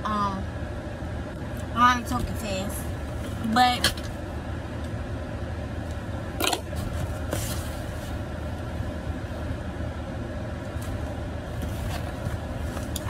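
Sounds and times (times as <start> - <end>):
low hum in car cabin: 0.0 - 13.0.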